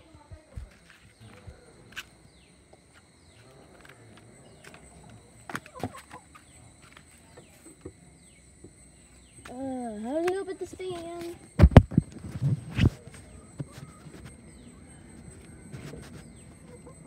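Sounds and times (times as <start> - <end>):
chickens clucking faintly: 0.0 - 9.5, 10.7 - 17.0.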